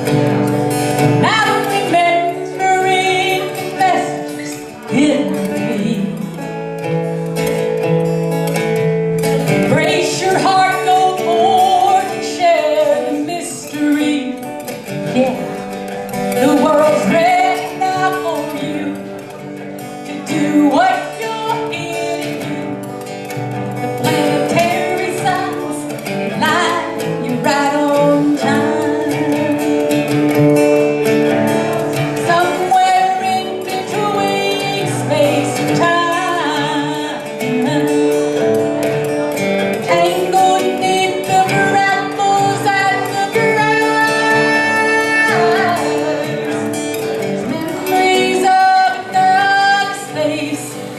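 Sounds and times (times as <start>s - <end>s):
person singing: 0.0s - 7.7s, 9.3s - 50.9s
acoustic guitar playing: 0.0s - 50.9s.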